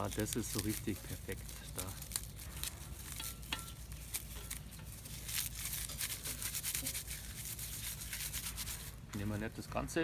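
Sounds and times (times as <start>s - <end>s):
dry bark crackling and rustling: 0.0s - 10.0s.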